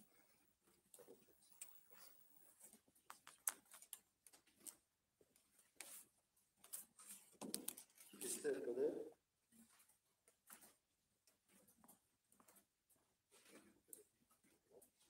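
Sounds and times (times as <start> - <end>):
faint clicks and rustles: 0.0 - 8.4, 9.4 - 15.0.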